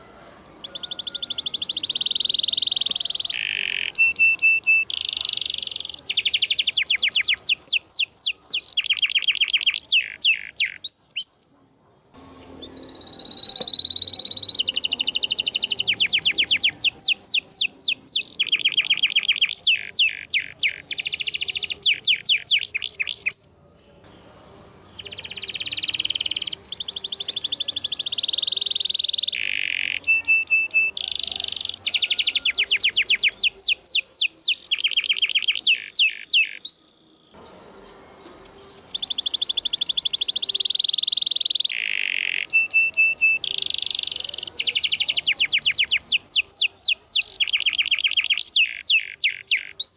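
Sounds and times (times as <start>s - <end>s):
canary singing trills: 0.0s - 11.6s, 12.3s - 49.9s.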